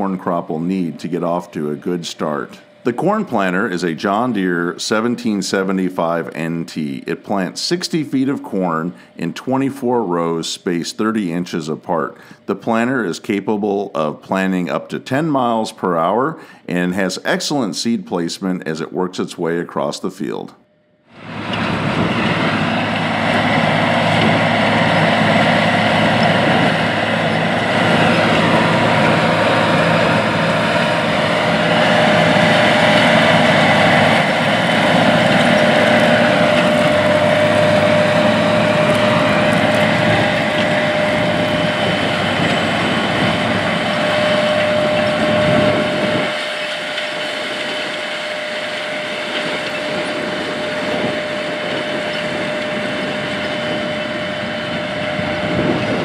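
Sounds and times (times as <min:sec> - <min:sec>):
tractor engine running under load: 0:00.0 - 0:10.4, 0:21.1 - 0:56.0
high whine: 0:00.0 - 0:56.0.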